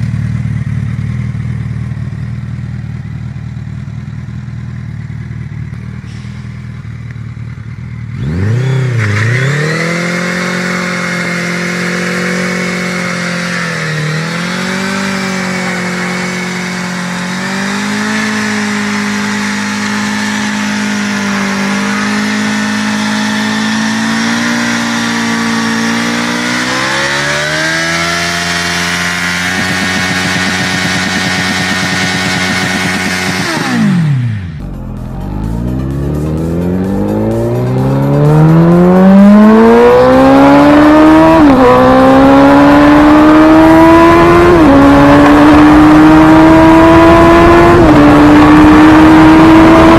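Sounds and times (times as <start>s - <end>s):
motorcycle engine at high revs: 0.0s - 49.9s.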